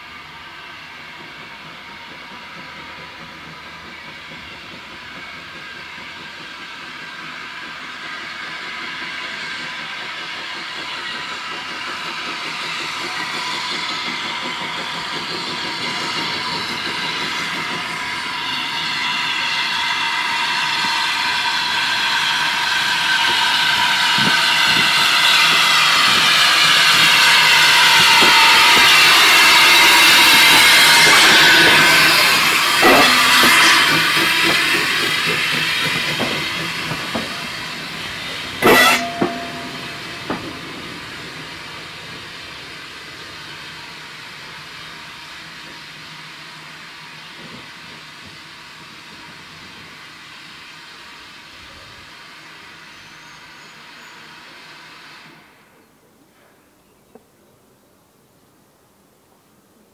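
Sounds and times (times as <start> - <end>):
steam hissing from locomotive: 0.0 - 56.8.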